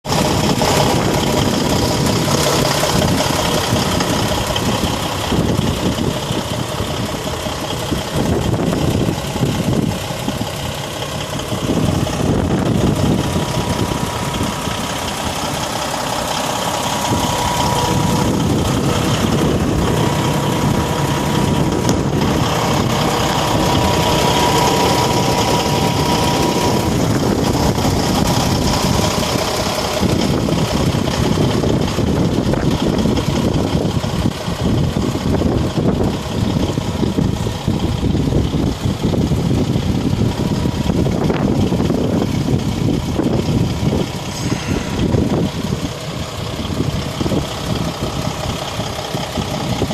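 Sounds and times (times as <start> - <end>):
diesel truck engine idling: 0.0 - 49.9.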